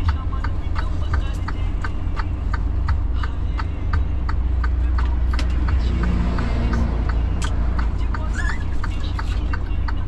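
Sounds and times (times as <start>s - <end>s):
truck engine rumbling: 0.0s - 10.0s
sharp clicking: 0.1s - 10.0s.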